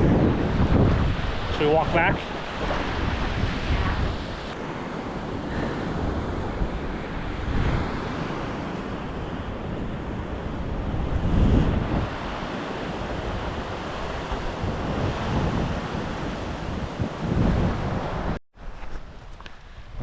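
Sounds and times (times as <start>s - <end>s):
ocean surf washing on shore: 0.0s - 18.4s
wind buffeting microphone: 0.0s - 20.0s.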